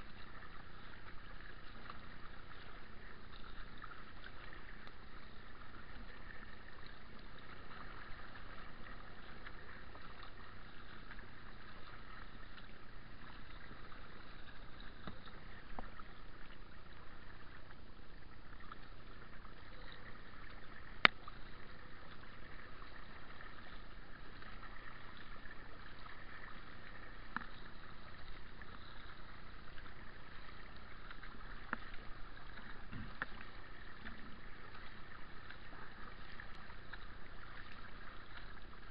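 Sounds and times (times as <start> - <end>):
water trickling off paddle: 0.0 - 38.9.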